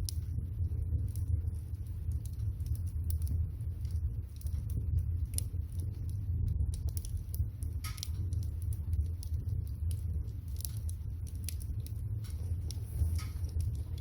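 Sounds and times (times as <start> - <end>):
firewood crackling and popping: 0.0 - 14.0
water boiling in a pot: 0.0 - 14.0.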